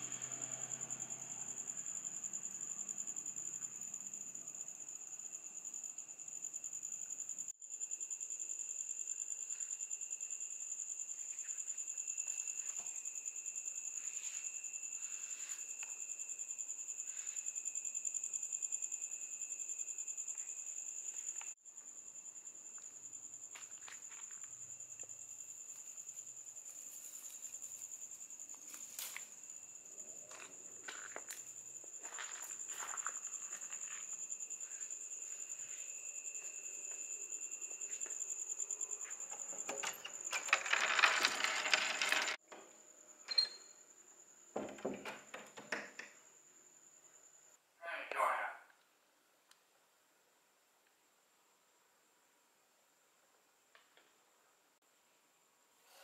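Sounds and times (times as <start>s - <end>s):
low insect trill: 0.0s - 47.6s
crickets chirring: 0.0s - 48.6s.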